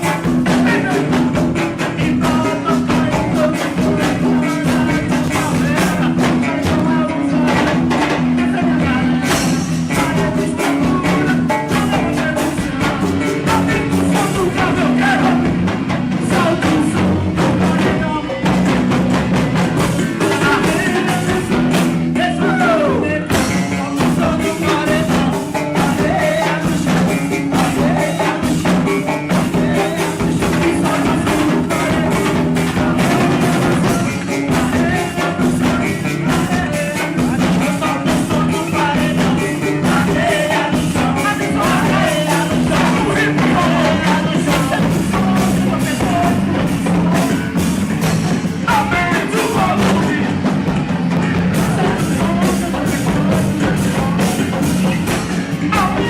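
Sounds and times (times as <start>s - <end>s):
bass line: 0.0s - 56.0s
drum beat: 0.0s - 56.0s
person singing: 0.0s - 56.0s.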